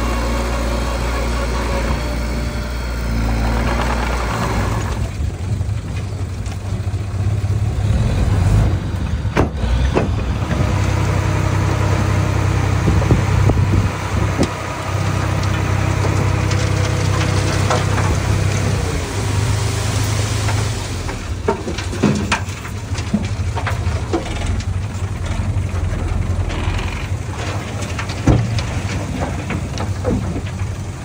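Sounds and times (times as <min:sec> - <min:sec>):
bulldozer diesel engine: 0:00.0 - 0:31.0.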